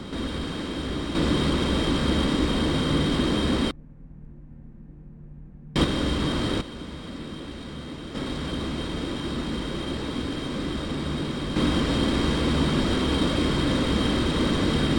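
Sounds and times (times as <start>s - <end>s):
jet engines roaring: 0.0s - 3.7s, 5.8s - 14.9s
high engine whine: 0.0s - 3.8s, 5.8s - 14.9s.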